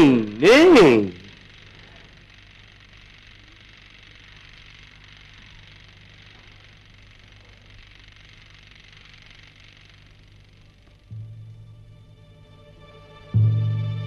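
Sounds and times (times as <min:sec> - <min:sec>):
low hum: 0:00.0 - 0:14.0
steady hiss: 0:00.0 - 0:14.0.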